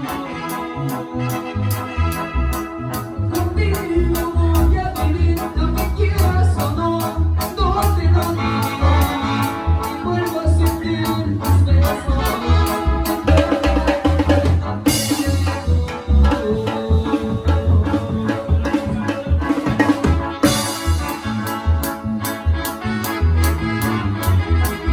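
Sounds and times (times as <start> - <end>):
latin band music: 0.0 - 24.9.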